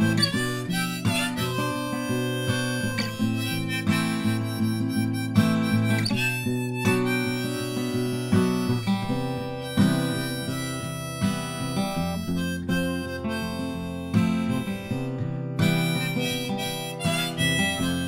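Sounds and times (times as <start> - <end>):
harmonica melody: 0.0 - 18.0
strummed acoustic guitar: 0.0 - 18.0.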